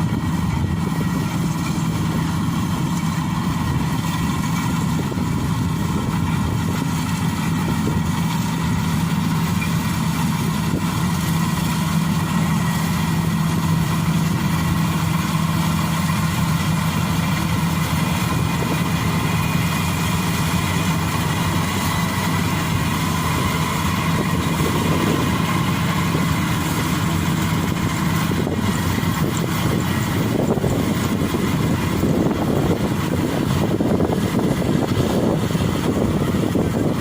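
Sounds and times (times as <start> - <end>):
combine harvester engine humming: 0.0 - 37.0.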